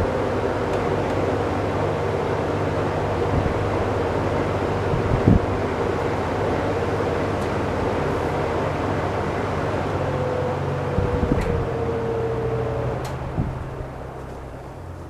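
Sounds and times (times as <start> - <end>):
box fan humming: 0.0 - 15.0.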